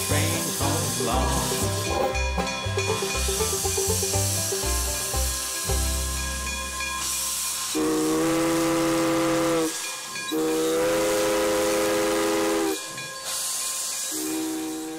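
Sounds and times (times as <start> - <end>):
steam hissing: 0.0 - 14.9
steam locomotive whistle: 0.0 - 14.9.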